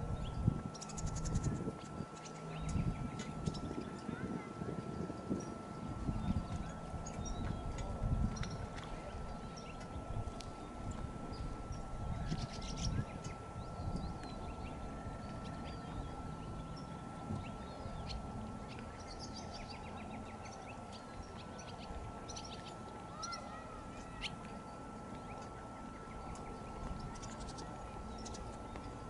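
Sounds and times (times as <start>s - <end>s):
faint high hum: 0.0s - 29.0s
steady low rumble: 0.0s - 29.0s.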